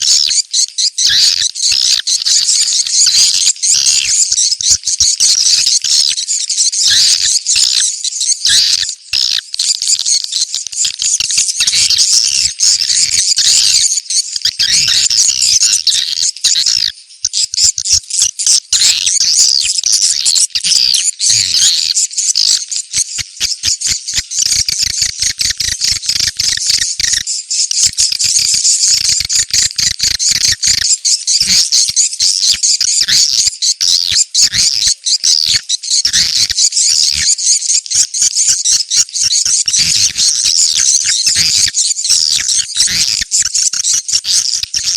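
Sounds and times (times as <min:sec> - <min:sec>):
swiftlets twittering and clicking: 0:00.0 - 0:44.9.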